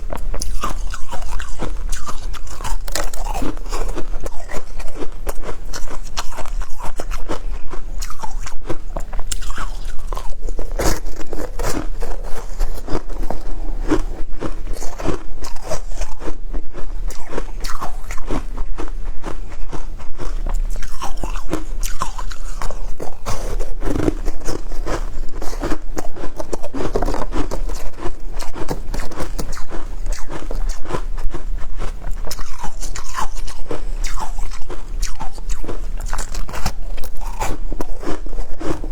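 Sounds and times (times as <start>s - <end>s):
crunching and chewing shaved ice: 0.0s - 38.9s.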